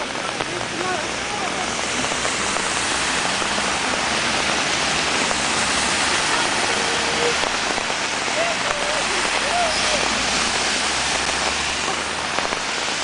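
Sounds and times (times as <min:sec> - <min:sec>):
cars driving through floodwater: 0:00.0 - 0:13.0
heavy rain on flooded street: 0:00.0 - 0:13.0.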